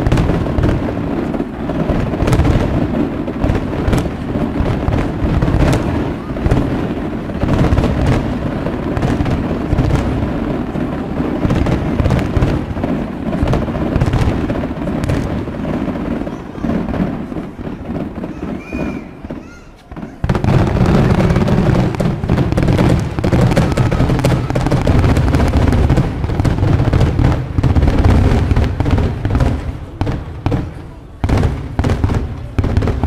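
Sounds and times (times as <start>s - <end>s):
fireworks booms: 0.0s - 33.0s
fireworks cracks: 0.0s - 33.0s.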